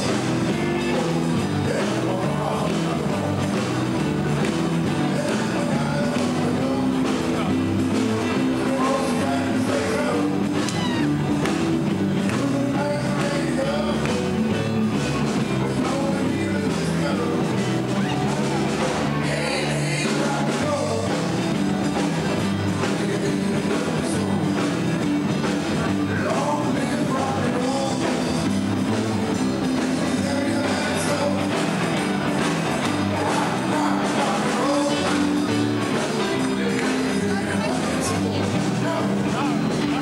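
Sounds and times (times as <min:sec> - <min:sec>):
rock and roll music with singing: 0:00.0 - 0:40.0.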